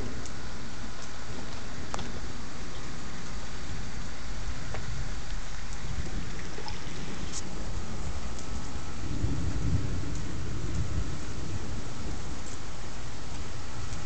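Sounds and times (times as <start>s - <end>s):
raindrop ticks: 0.0s - 14.0s
steady rain: 0.0s - 14.0s
thunder rumbling: 0.0s - 14.0s.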